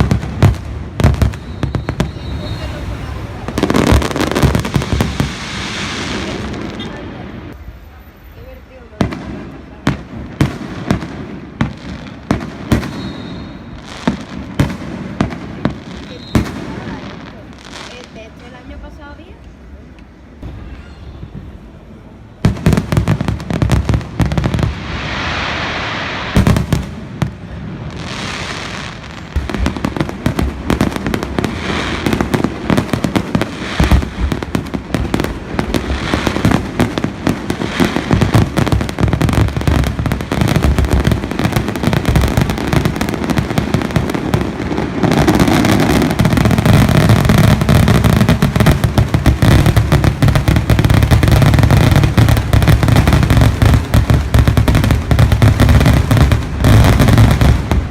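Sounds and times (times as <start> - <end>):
fireworks bursts and bangs: 0.0 - 19.6, 20.4 - 57.9
fireworks hissing crackle: 0.0 - 57.9.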